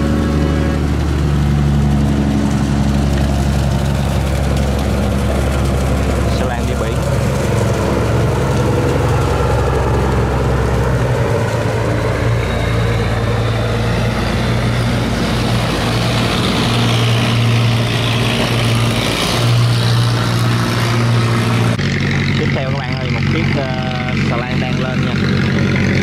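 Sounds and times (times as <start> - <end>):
wash water rushing: 0.0 - 22.1
barge diesel engine humming: 0.0 - 26.0.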